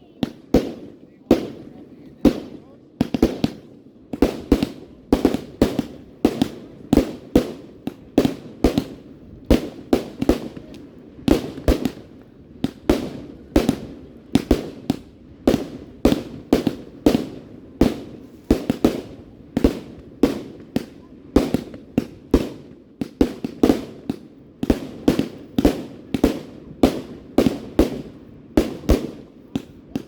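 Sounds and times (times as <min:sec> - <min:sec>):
fireworks bangs with rolling echo: 0:00.0 - 0:30.0.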